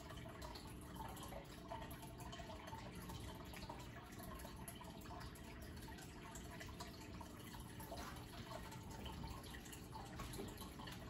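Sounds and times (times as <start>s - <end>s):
aquarium water bubbling: 0.0s - 11.0s.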